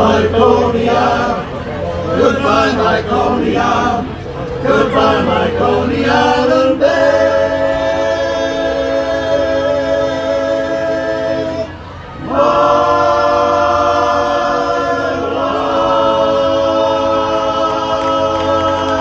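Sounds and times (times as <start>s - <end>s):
men's chorus singing a cappella: 0.0s - 19.0s.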